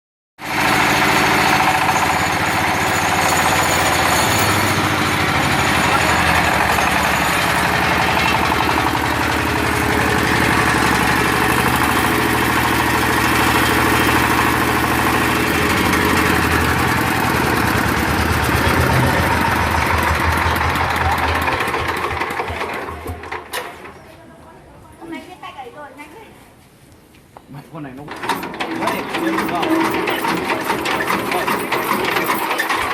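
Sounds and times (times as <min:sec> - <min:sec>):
diesel engine knocking: 0:00.4 - 0:23.5, 0:28.2 - 0:32.9.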